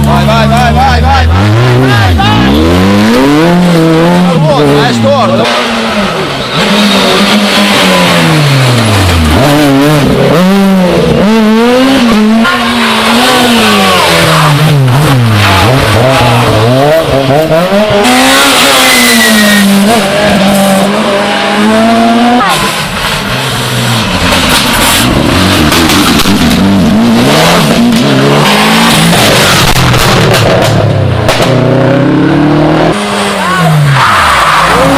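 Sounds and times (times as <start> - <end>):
rally car engine revving: 0.0 - 34.9.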